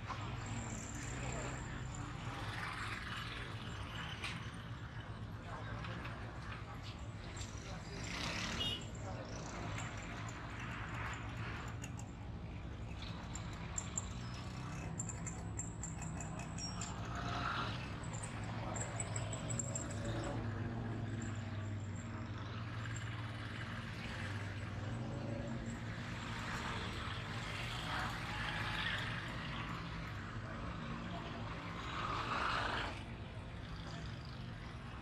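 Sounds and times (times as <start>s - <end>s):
auto-rickshaw engines running: 0.0s - 35.0s
street traffic: 0.0s - 35.0s.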